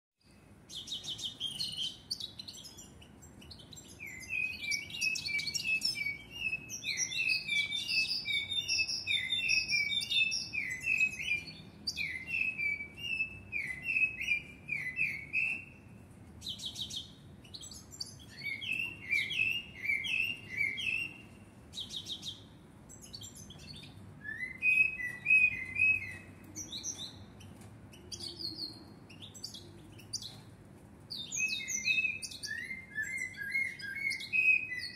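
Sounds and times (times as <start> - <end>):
blackbird singing: 0.2 - 30.5, 31.1 - 34.9.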